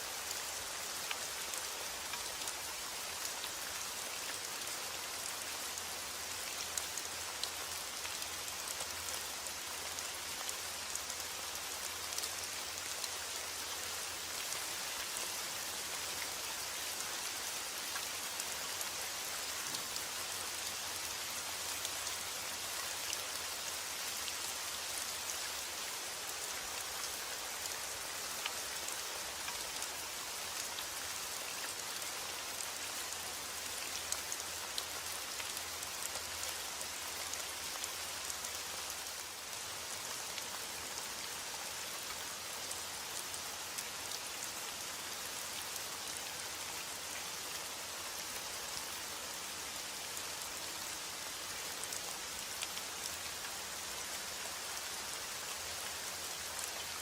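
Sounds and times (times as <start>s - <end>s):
steady rain pattering: 0.0s - 57.0s.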